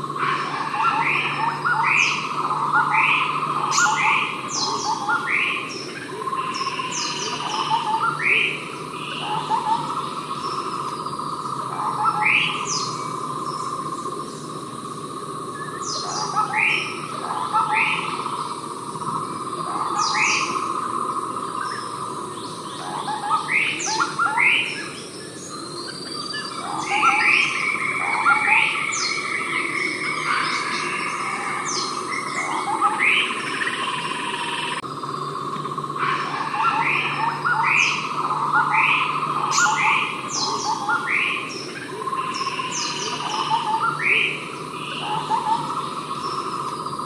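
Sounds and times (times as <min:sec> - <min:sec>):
bird calling sharp notes: 0:00.0 - 0:47.0
high insect drone: 0:00.0 - 0:47.0.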